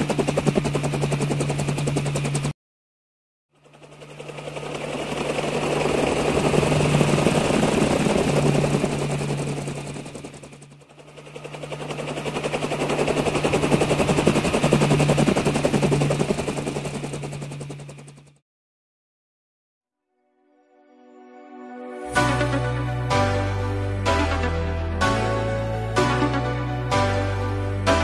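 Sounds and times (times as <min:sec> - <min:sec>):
helicopter engine drone: 0:00.0 - 0:02.6, 0:03.5 - 0:18.4, 0:22.1 - 0:28.0
helicopter rotor chop: 0:00.0 - 0:02.6, 0:03.5 - 0:18.4, 0:22.2 - 0:28.0.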